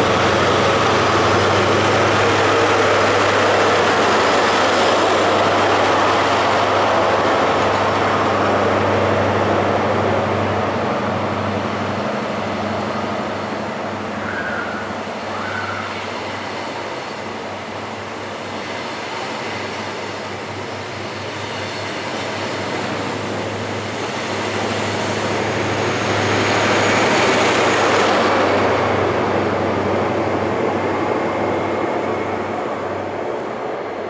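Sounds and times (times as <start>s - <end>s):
train wheels rushing on rails: 0.0s - 34.0s.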